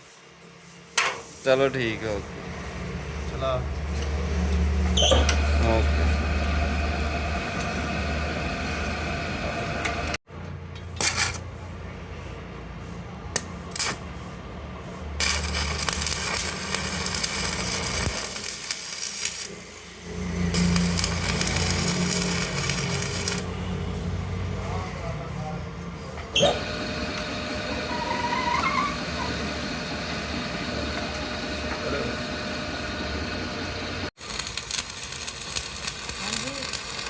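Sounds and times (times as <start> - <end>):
workshop machinery humming: 0.0 - 10.5, 11.5 - 37.0.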